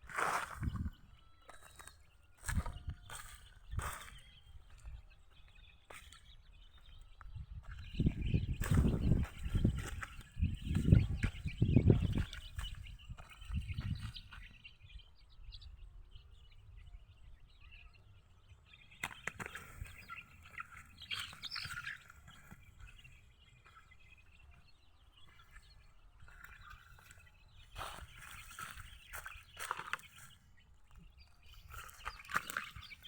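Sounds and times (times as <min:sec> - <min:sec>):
poultry chirping and calling: 0:00.0 - 0:33.0.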